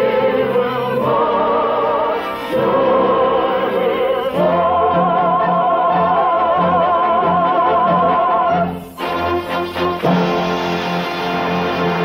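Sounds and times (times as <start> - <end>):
operatic choral singing: 0.0 - 12.0
orchestral music: 0.0 - 12.0.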